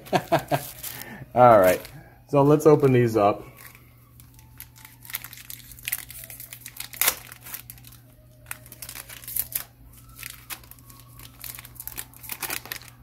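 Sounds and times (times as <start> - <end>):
foil wrapper crinkling and tearing: 0.0 - 2.0, 2.8 - 13.0.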